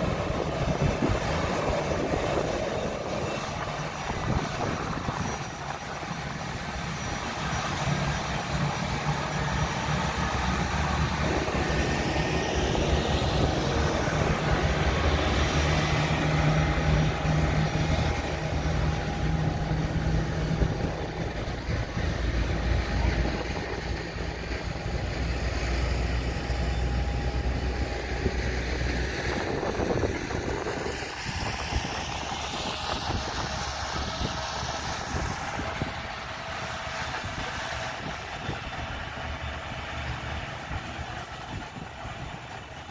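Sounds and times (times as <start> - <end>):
jet engines idling: 0.0 - 42.9.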